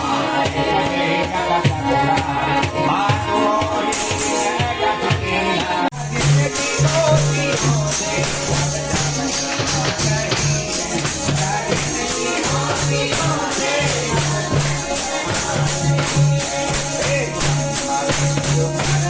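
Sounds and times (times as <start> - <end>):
jingling hand percussion: 0.0 - 19.0
voices singing: 0.0 - 19.0.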